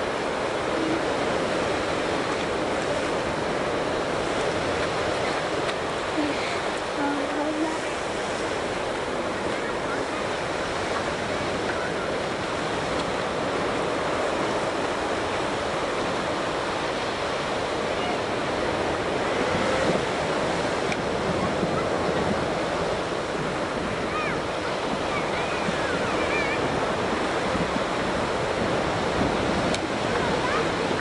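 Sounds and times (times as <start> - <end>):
distant surf breaking: 0.0 - 31.0
wind: 0.0 - 31.0.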